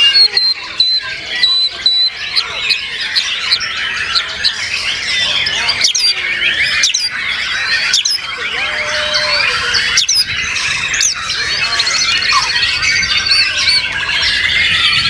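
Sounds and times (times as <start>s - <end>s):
songbirds singing in chorus: 0.0s - 15.0s.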